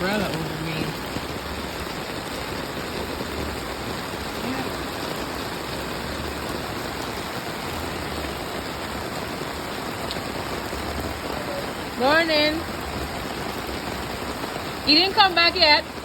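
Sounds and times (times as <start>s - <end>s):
heavy rain drumming on umbrella: 0.0s - 16.0s.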